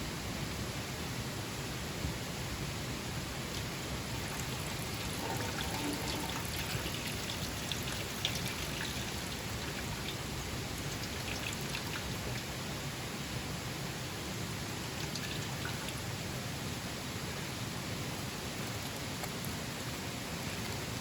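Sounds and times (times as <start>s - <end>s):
rain falling steadily: 0.0s - 21.0s.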